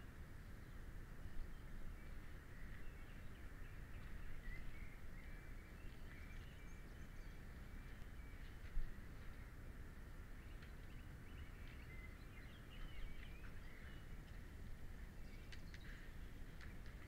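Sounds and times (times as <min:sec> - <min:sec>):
small birds chirping: 0:00.0 - 0:17.0
wind rumble: 0:00.0 - 0:17.0.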